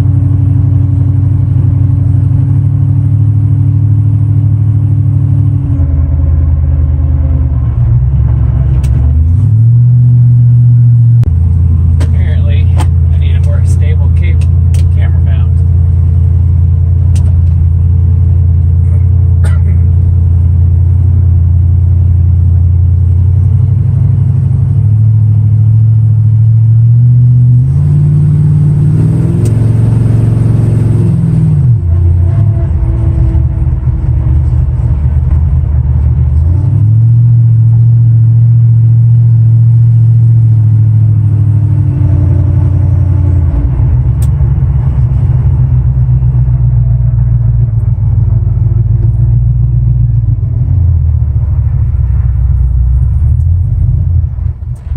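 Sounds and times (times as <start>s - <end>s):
truck engine deep note: 0.0s - 54.9s.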